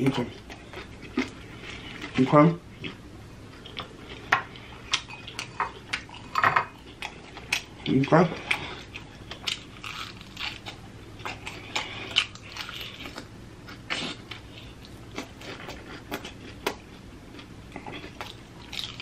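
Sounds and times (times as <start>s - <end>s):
biting and chewing: 0.0s - 19.0s.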